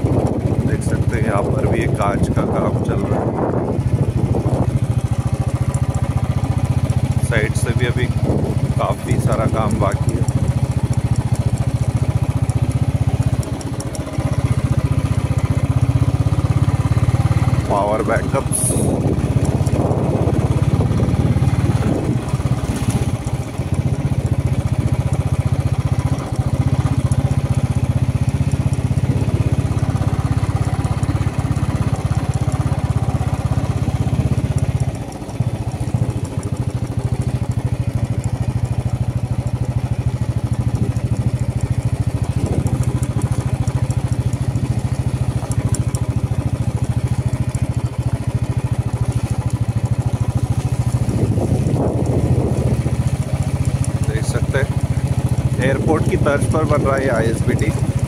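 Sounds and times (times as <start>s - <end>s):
small engine droning: 0.0s - 58.0s.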